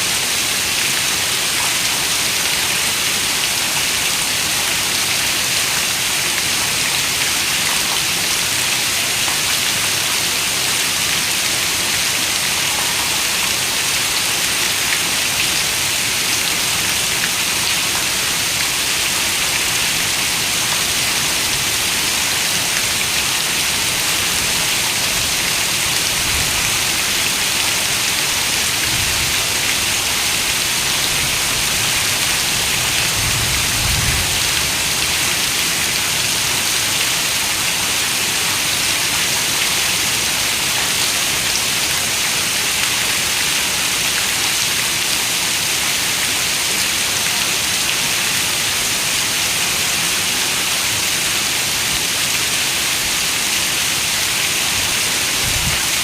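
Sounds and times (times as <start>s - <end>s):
heavy rain on a window: 0.0s - 56.0s.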